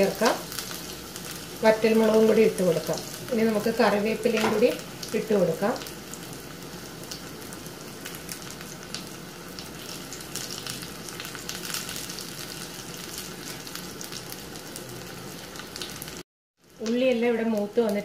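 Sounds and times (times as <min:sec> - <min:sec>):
oil sizzling and popping: 0:00.0 - 0:18.0.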